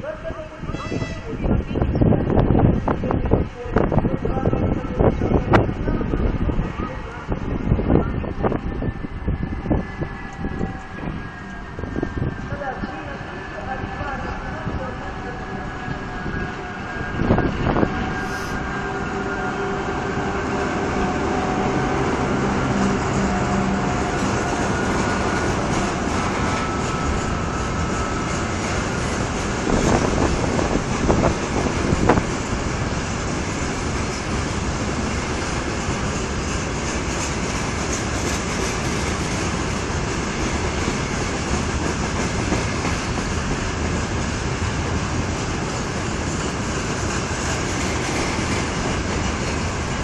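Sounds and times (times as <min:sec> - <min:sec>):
freight train wheels on rails: 0:00.2 - 0:50.0.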